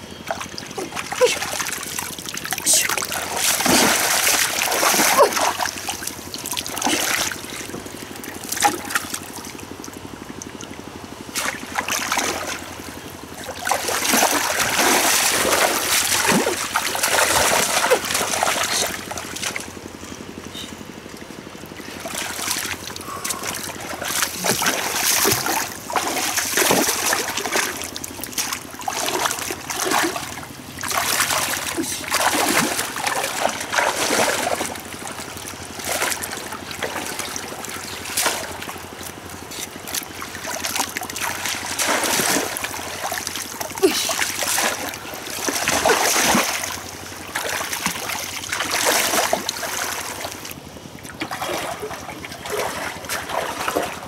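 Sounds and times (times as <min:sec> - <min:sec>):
muddy water splashing: 0:00.1 - 0:54.0.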